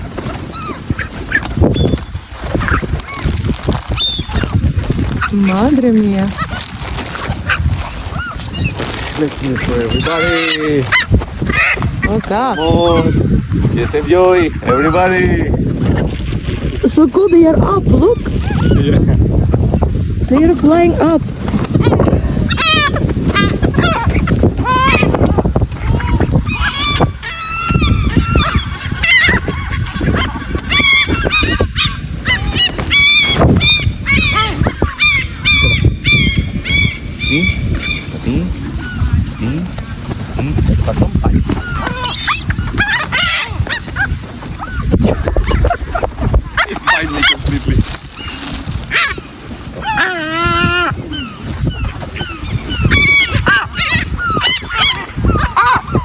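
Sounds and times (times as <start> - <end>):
flock of birds squawking: 0.0 - 56.0.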